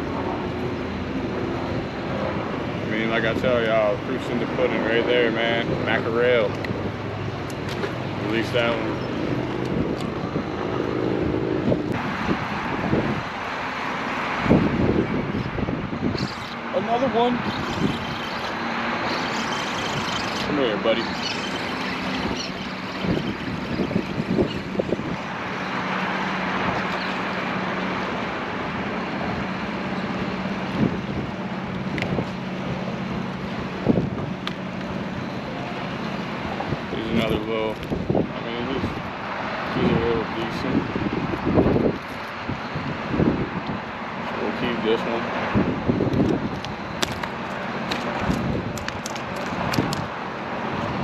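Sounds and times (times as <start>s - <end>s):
wind buffeting microphone: 0.0s - 13.5s, 14.3s - 51.0s
vehicle engine humming: 0.0s - 51.0s.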